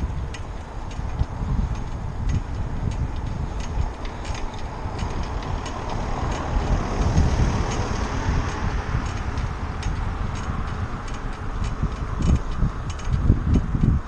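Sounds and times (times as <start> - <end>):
car passing: 0.0 - 13.6
wind buffeting microphone: 0.0 - 14.0
faint ticks: 0.2 - 14.0.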